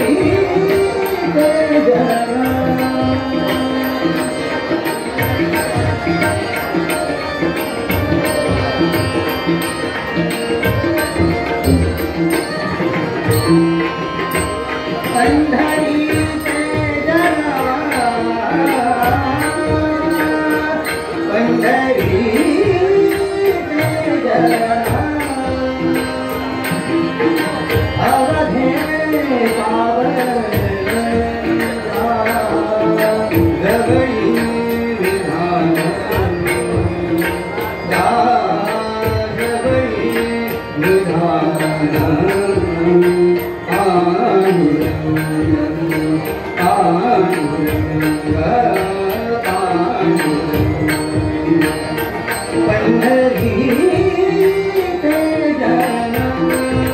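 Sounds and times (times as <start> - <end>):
harmonium: 0.0 - 56.9
man singing: 0.0 - 56.9
tabla beat: 0.0 - 56.9.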